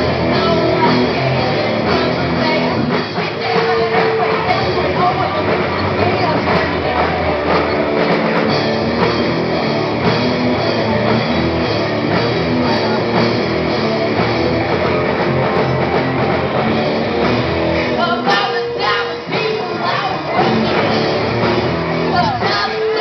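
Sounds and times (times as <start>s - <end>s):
bass guitar: 0.0s - 23.0s
drums: 0.0s - 23.0s
electric guitars: 0.0s - 23.0s.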